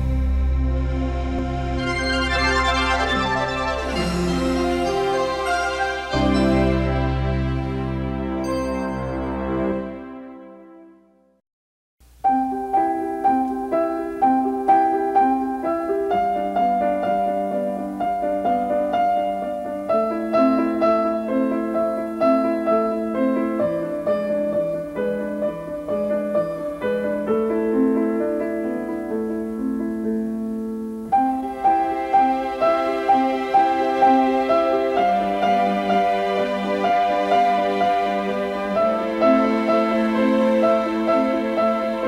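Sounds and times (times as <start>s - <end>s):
gentle piano music: 0.0s - 10.7s, 12.1s - 42.0s.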